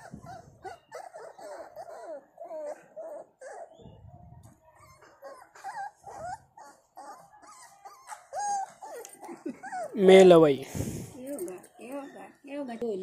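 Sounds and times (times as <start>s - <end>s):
puppies whimpering: 0.0s - 10.4s, 11.5s - 13.0s.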